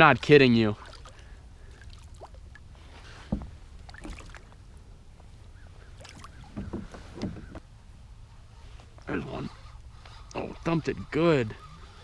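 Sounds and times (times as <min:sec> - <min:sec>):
water and boat handling: 0:00.0 - 0:12.0.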